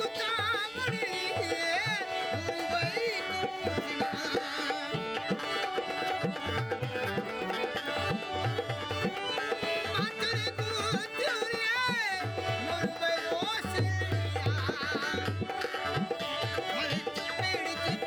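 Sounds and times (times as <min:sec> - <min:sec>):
hand-drum rhythm: 0:00.0 - 0:18.0.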